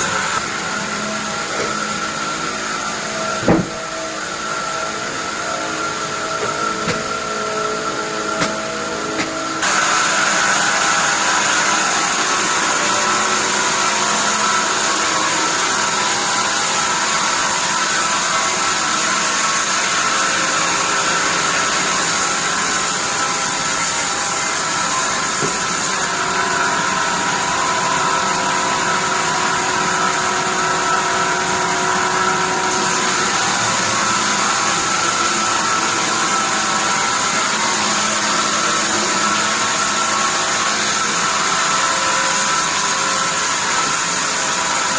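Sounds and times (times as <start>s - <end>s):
band saw machine running: 0.0s - 44.9s.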